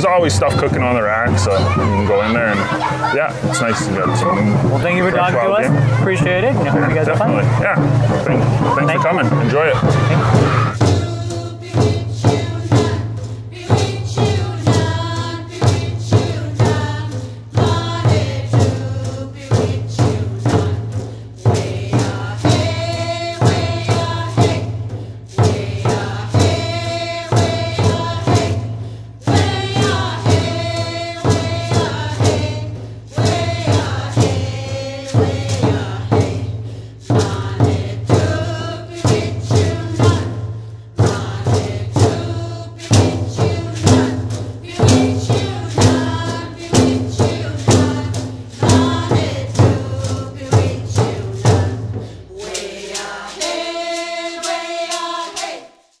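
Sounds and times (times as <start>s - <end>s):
steady drum beat: 0.0s - 55.5s
drum group singing a chant: 0.0s - 55.9s.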